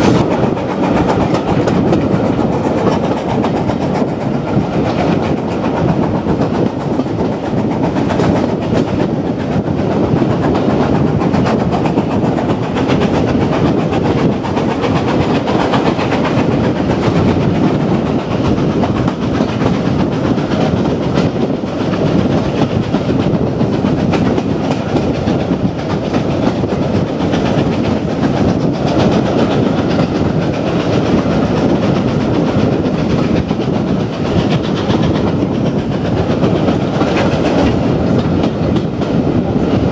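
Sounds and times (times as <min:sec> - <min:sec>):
train rumble: 0:00.0 - 0:39.9
train wheels clattering over rail joints: 0:00.0 - 0:39.9.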